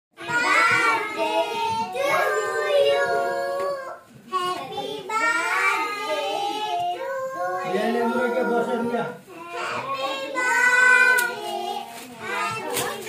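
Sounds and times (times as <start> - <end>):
child singing: 0.2 - 13.0.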